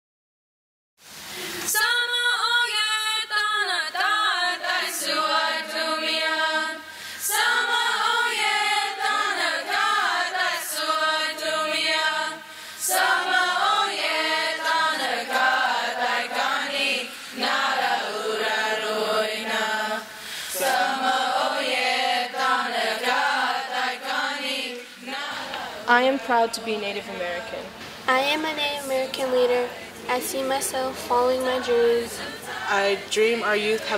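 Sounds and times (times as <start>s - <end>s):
choir singing unaccompanied: 1.7s - 28.0s, 28.6s - 33.9s.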